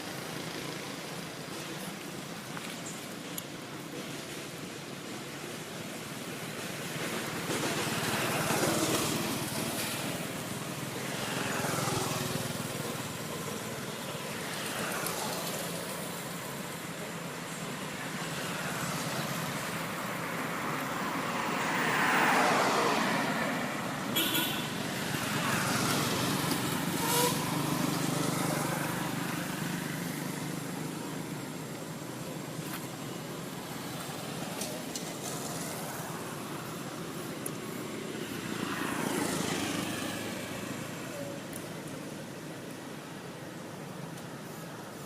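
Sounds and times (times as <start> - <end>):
vehicles passing by: 0.0 - 45.0.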